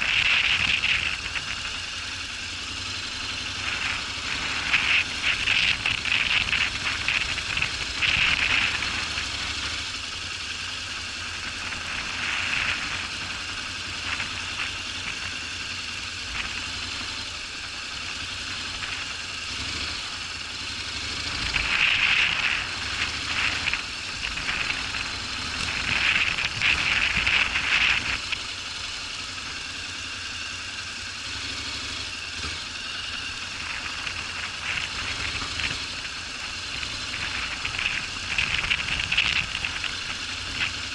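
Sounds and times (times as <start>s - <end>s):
motorcycle engine at low revs: 0.0s - 40.9s.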